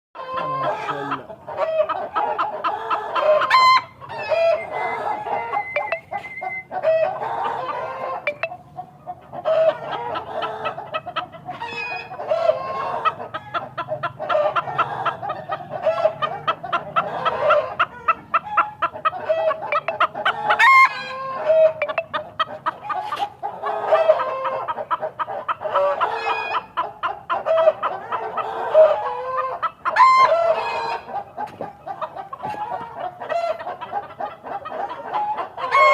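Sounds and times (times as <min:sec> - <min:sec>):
chickens clucking: 0:00.2 - 0:35.9.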